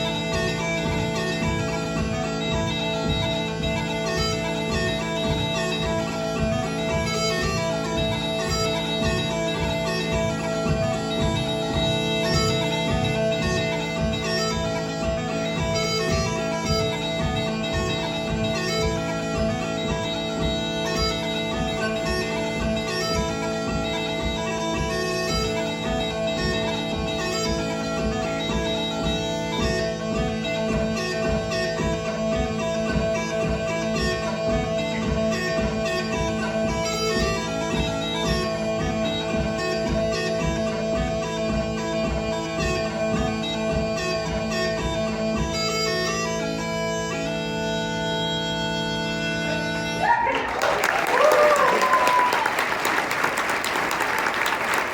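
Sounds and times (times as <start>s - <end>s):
bagpipe chanter melody: 0.0s - 54.9s
bagpipe drones: 0.0s - 54.9s.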